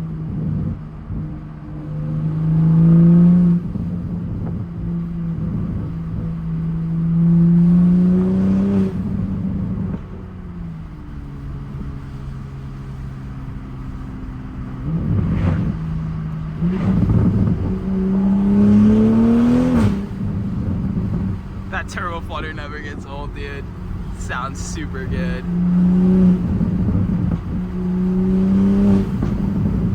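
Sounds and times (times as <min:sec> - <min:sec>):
car engine accelerating hard: 0:00.0 - 0:29.9.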